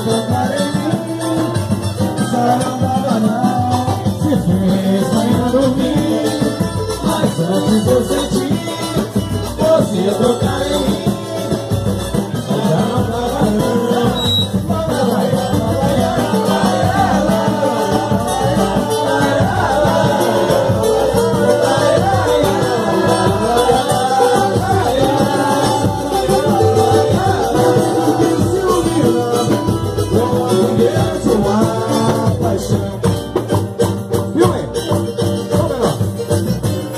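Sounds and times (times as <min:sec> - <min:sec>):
person singing: 0:00.0 - 0:33.5
guitar accompaniment: 0:00.0 - 0:36.9
light percussion: 0:00.0 - 0:36.9.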